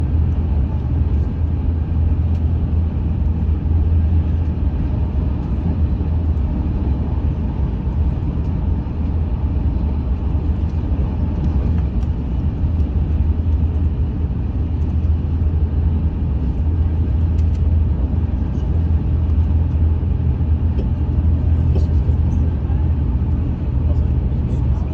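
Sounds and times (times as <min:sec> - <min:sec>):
train rumbling along track: 0:00.0 - 0:24.9.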